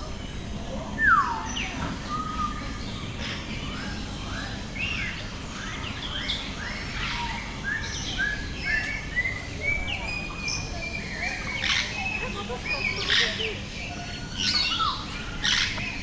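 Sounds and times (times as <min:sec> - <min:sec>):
birds chirping: 0:00.0 - 0:16.0
low background hum: 0:00.0 - 0:16.0.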